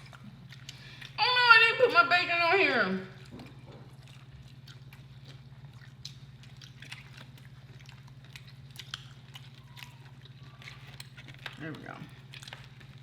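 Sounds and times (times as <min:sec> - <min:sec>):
clicks and crunches of eating: 0:00.0 - 0:01.2, 0:03.1 - 0:13.0
steady low hum: 0:00.0 - 0:13.0.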